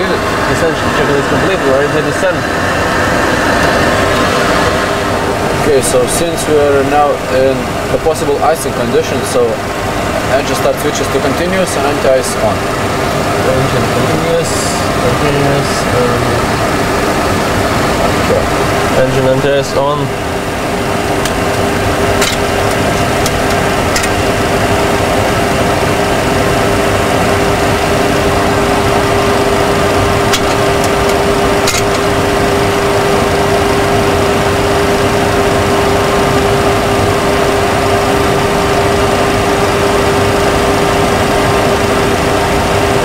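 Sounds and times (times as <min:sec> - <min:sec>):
cockpit drone: 0:00.0 - 0:43.0.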